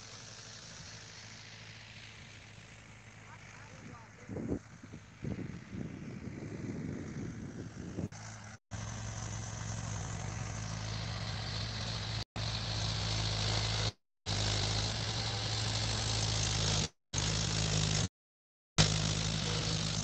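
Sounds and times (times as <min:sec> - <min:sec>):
tractor diesel engine under load: 0:00.0 - 0:18.1, 0:18.8 - 0:20.0.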